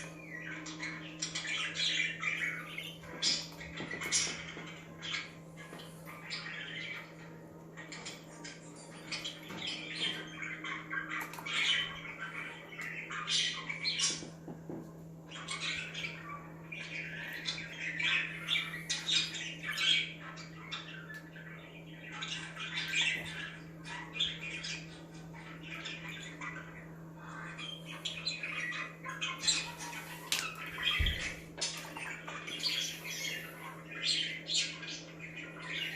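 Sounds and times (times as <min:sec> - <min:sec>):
budgies chattering and squawking: 0:00.0 - 0:35.9.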